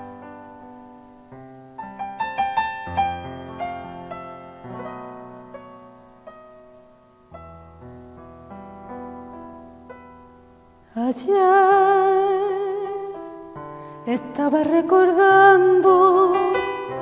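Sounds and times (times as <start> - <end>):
solo tango piano: 0.0 - 11.2, 12.8 - 17.0.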